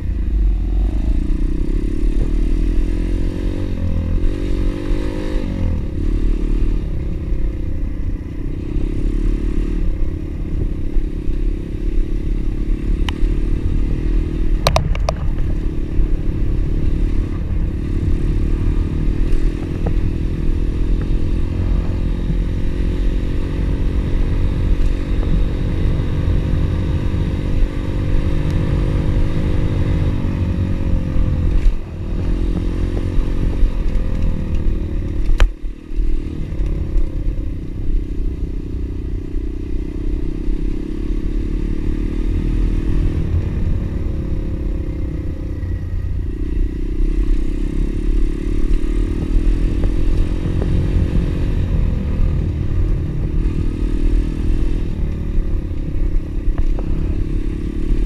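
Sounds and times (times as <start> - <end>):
pit bike engine running: 0.0 - 58.0.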